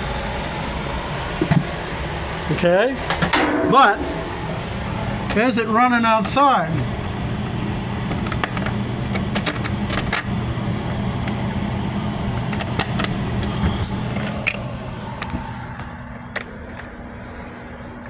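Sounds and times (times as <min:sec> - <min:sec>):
air conditioner electric hum: 0:00.0 - 0:18.0.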